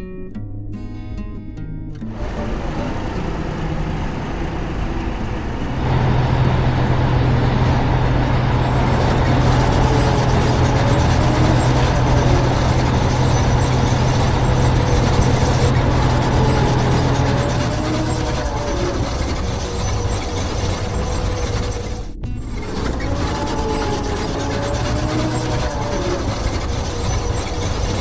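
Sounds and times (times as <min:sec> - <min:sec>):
heavy vehicle engine running: 0:02.1 - 0:28.0.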